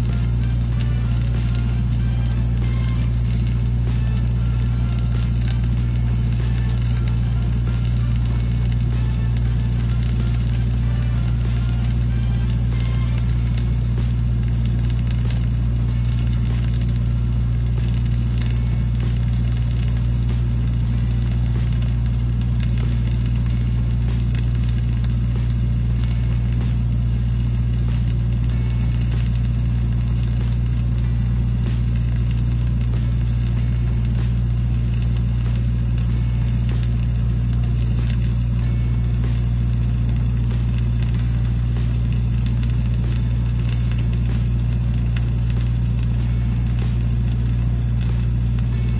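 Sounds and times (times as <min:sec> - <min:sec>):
welding arc crackling: 0:00.0 - 0:48.9
welding machine engine drone: 0:00.0 - 0:48.9.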